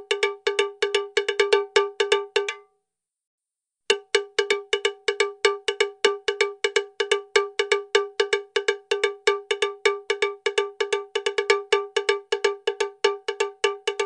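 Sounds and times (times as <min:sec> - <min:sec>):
bell-like percussive strikes: 0:00.1 - 0:02.7, 0:03.9 - 0:14.0.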